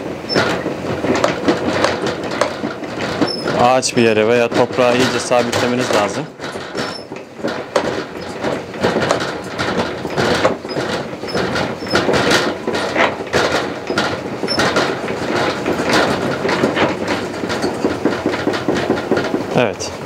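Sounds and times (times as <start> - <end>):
honey extractor metallic rattle: 0.0 - 20.0.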